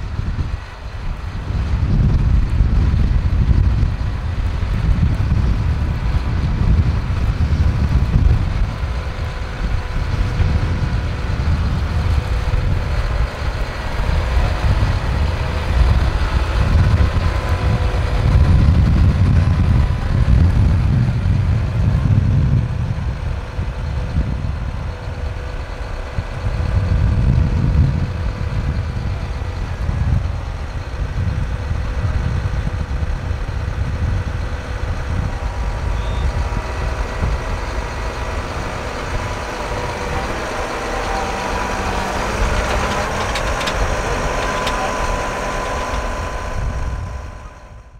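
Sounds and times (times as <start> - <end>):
tractor engine whining: 0.0 - 47.9
wind buffeting microphone: 0.0 - 47.9.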